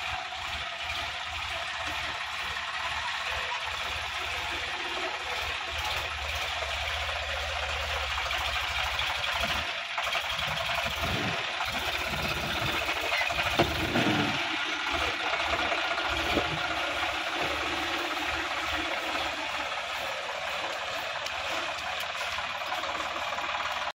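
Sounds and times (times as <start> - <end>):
tractor diesel engine rumbling: 0.0 - 23.9.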